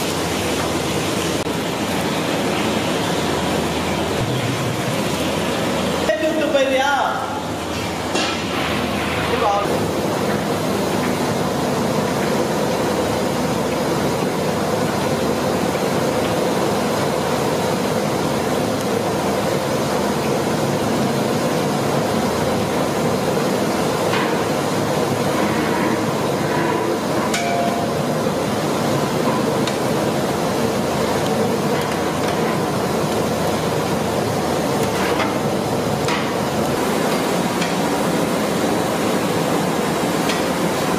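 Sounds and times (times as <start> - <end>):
bread sizzling in hot oil: 0.0 - 40.9.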